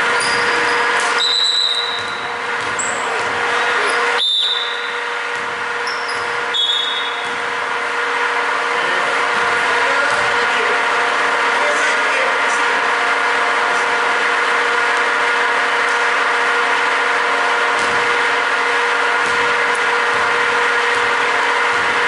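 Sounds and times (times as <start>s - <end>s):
loud mechanical hum: 0.0s - 22.0s.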